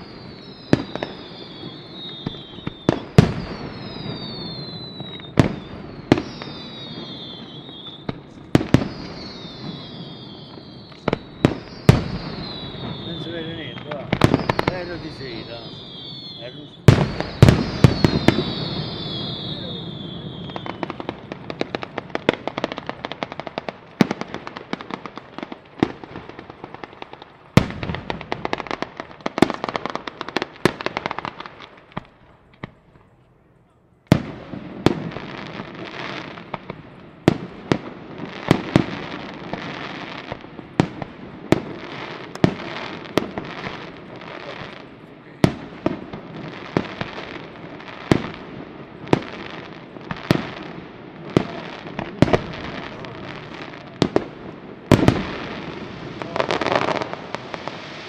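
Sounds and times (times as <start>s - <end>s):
firecracker bangs: 0.0s - 26.9s, 27.5s - 32.8s, 34.1s - 58.0s
firecrackers crackling: 0.0s - 58.0s.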